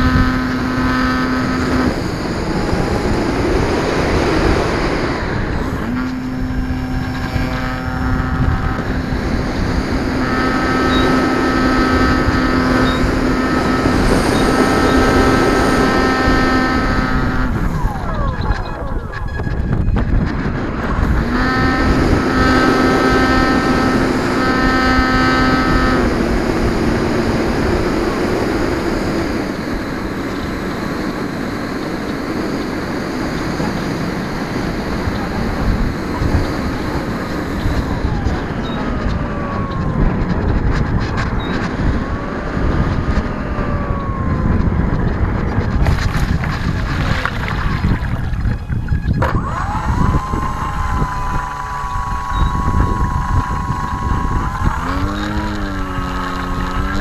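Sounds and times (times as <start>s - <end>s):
electric motor whine: 0.0s - 57.0s
wind and water rush: 0.0s - 57.0s.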